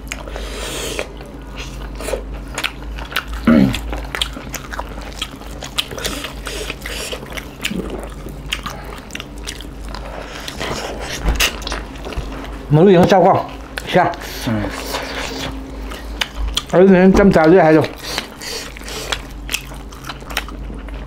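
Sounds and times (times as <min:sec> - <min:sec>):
chewing meat: 0:00.0 - 0:21.0.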